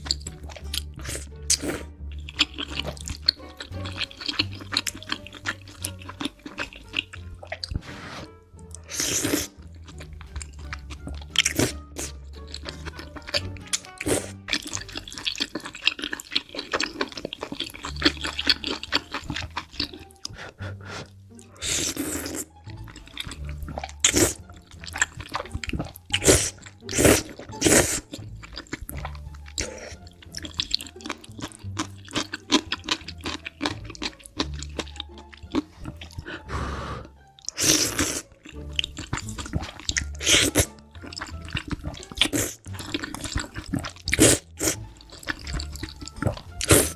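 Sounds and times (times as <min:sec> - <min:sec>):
wet chewing and smacking: 0:00.0 - 0:07.8, 0:08.6 - 0:36.4, 0:37.4 - 0:46.9
noodle slurps: 0:00.0 - 0:10.4, 0:11.2 - 0:20.3, 0:21.0 - 0:46.9
background music: 0:00.0 - 0:46.9.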